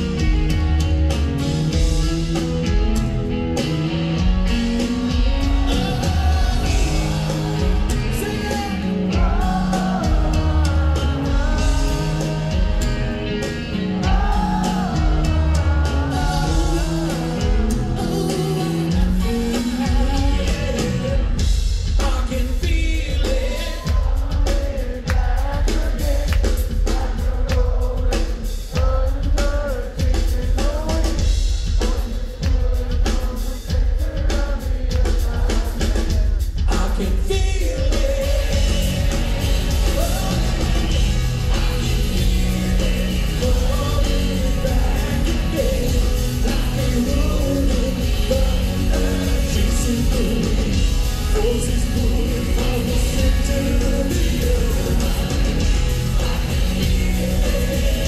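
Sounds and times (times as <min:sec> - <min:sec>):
drum kit: 0:00.0 - 0:58.0
live rock band: 0:00.0 - 0:58.0
lead vocal singing: 0:01.4 - 0:58.0.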